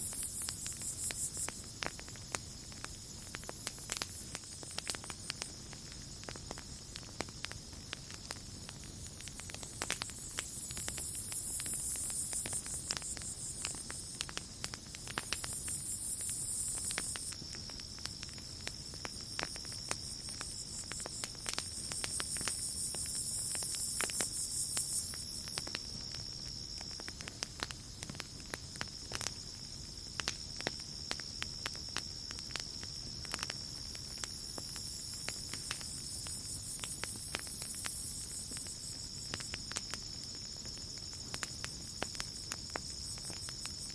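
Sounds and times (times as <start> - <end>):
campfire crackling and popping: 0.0 - 43.9
cricket trill: 0.0 - 43.9.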